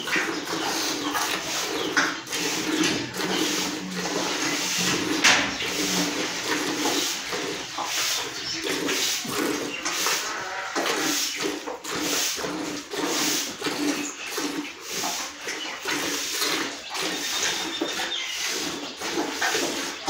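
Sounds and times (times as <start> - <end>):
milk squirting into metal pail: 0.0 - 20.0.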